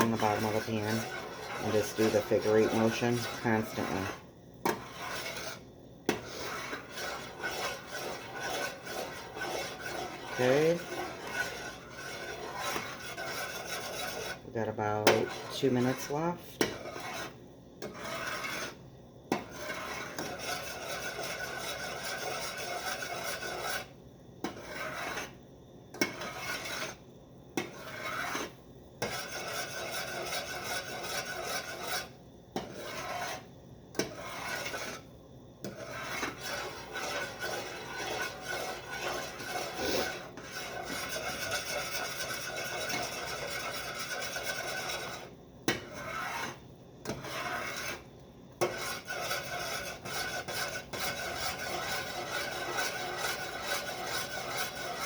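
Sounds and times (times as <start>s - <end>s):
spoon scraping a saucepan: 0.0s - 27.0s, 27.6s - 55.0s.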